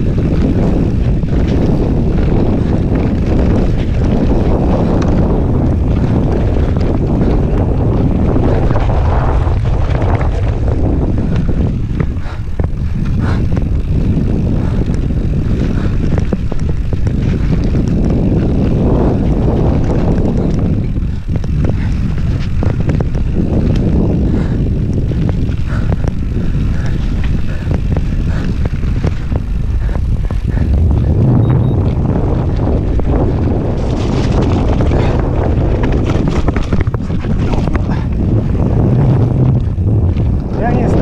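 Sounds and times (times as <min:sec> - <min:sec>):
bike clicks and rattles: 0:00.0 - 0:41.0
wind rumbling on microphone: 0:00.0 - 0:41.0.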